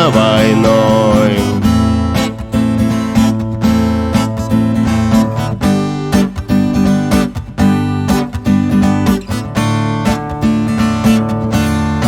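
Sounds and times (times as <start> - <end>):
acoustic guitar strummed: 0.0 - 12.0.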